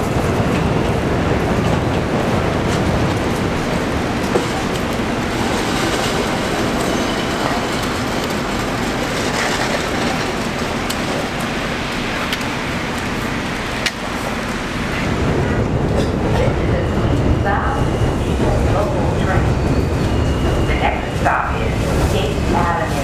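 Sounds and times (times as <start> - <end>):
train rumbling on elevated steel track: 0.0 - 23.0.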